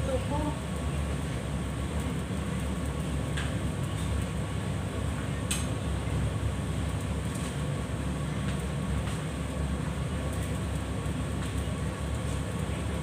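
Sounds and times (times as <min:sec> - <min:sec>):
range hood fan drone: 0:00.0 - 0:13.0.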